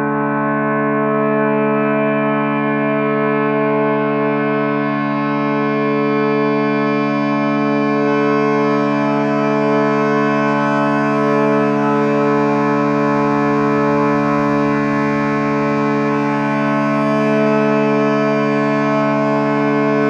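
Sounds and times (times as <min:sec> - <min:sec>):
ambient drone chord: 0:00.0 - 0:20.0.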